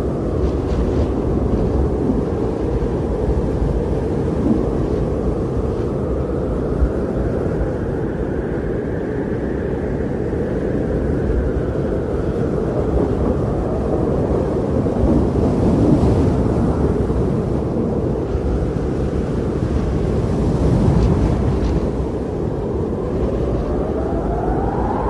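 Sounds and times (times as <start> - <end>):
strong blizzard wind: 0.0 - 25.0.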